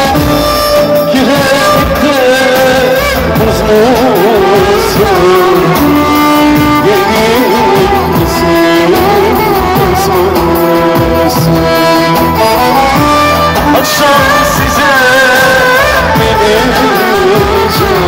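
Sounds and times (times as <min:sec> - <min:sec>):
electronic keyboard melody: 0:00.0 - 0:18.0
person singing: 0:00.0 - 0:18.0
rhythmic bass: 0:00.0 - 0:18.0
violin melody: 0:00.0 - 0:18.0.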